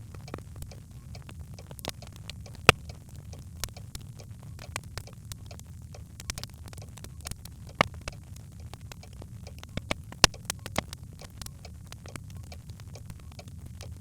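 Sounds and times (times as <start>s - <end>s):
fire crackling and popping: 0.0s - 14.0s
low fire rumble: 0.0s - 14.0s.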